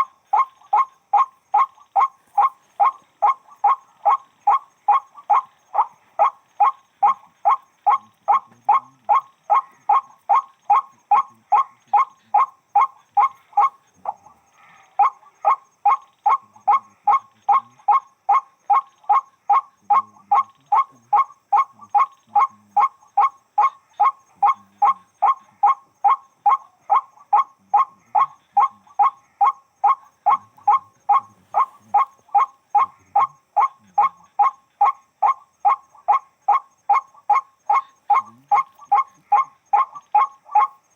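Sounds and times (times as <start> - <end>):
waterhen harsh calls: 0.0 - 40.9.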